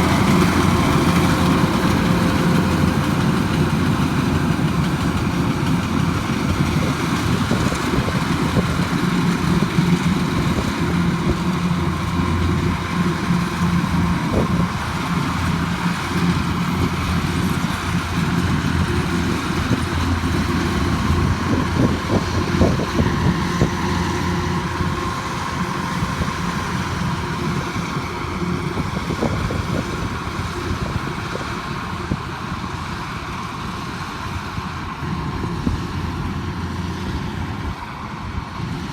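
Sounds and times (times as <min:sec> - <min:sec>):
farm machine engine humming: 0:00.0 - 0:38.9.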